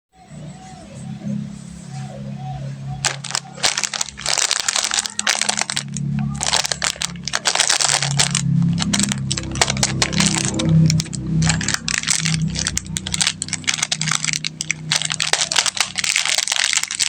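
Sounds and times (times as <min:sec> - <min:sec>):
candy wrappers crinkling: 0:03.0 - 0:17.0.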